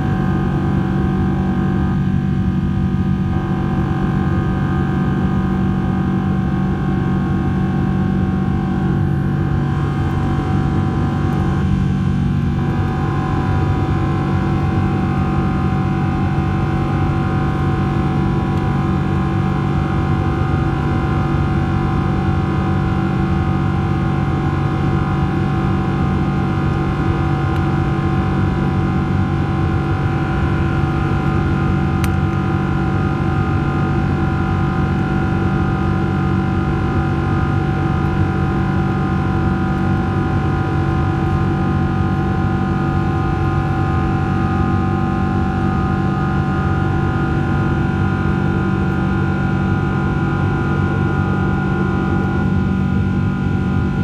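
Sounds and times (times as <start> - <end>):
jet engine drone: 0.0 - 54.0.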